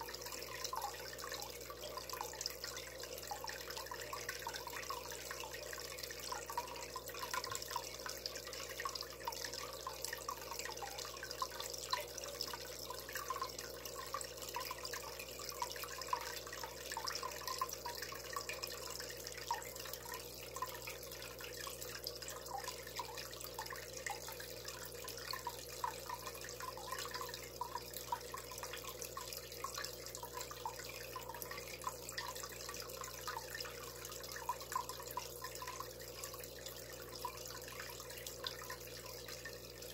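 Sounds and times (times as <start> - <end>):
water dripping: 0.0 - 39.9
water trickling and bubbling: 0.0 - 39.9.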